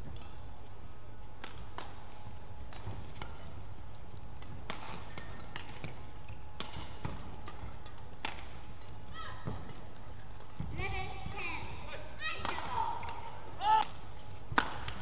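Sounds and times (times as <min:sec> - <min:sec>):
low hum of hall: 0:00.0 - 0:15.0
racket hitting shuttlecock: 0:01.4 - 0:10.8, 0:12.3 - 0:15.0.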